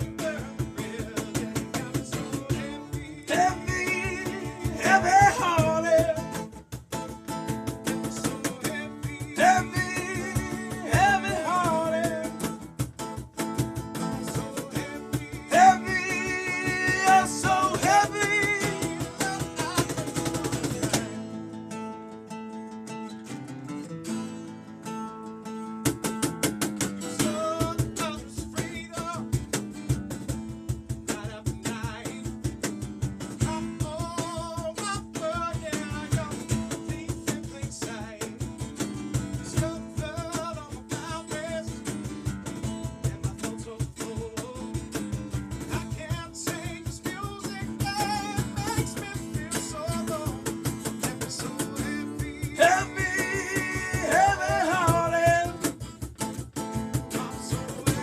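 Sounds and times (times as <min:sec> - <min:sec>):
man singing: 0:00.0 - 0:12.7, 0:13.9 - 0:21.4, 0:27.2 - 0:29.6, 0:30.9 - 0:56.0, 0:56.6 - 0:58.0
drums: 0:00.0 - 0:21.2, 0:25.8 - 0:58.0
strummed acoustic guitar: 0:00.0 - 0:58.0.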